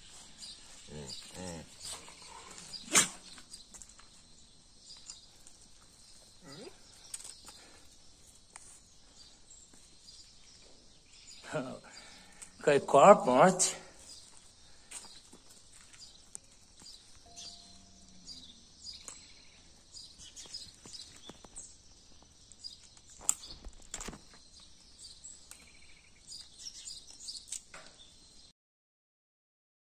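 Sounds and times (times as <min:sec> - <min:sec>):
birds chirping: 0:00.0 - 0:28.5.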